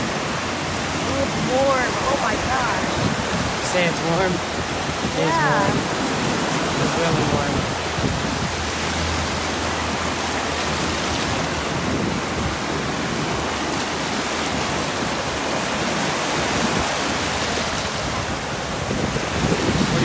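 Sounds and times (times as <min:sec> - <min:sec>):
waves washing on sandy beach: 0:00.0 - 0:20.0.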